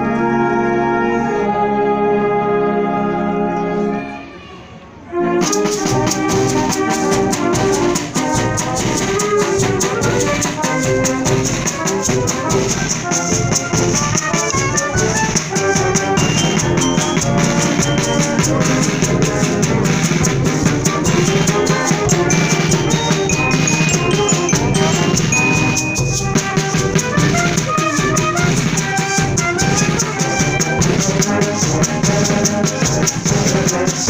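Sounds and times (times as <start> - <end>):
wind band playing: 0.0 - 34.0
driving percussion beat: 5.4 - 34.0.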